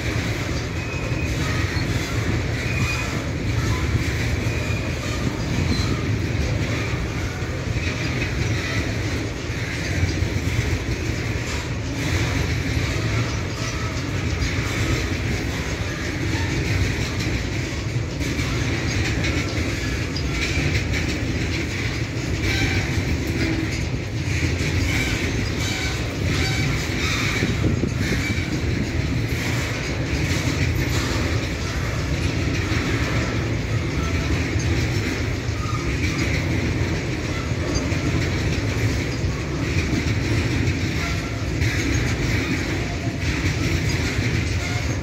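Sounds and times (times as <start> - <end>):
freight train wheels rumbling: 0.0 - 45.0
train wheel squeal: 0.0 - 45.0.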